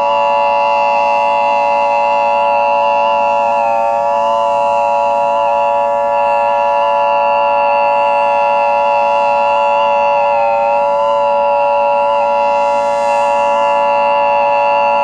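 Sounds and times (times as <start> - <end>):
civil defense siren: 0.0 - 15.0.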